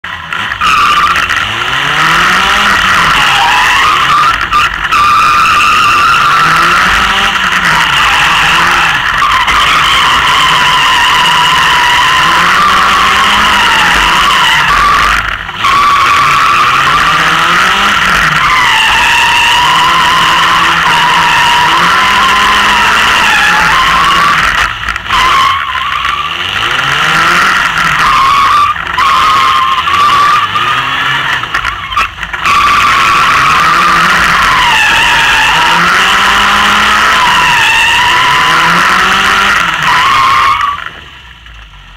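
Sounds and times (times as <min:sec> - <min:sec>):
tyre squeal: 0:00.0 - 0:41.2
car engine revving hard: 0:00.0 - 0:41.4.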